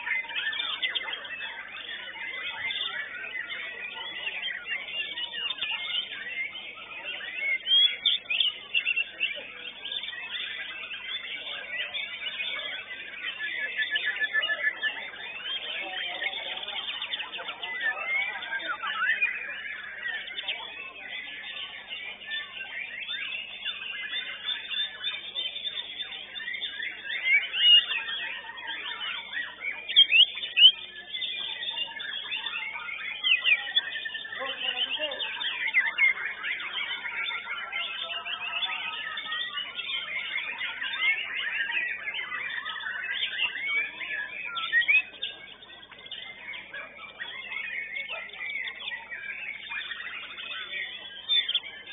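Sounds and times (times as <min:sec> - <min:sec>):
birds singing: 0:00.0 - 0:51.9.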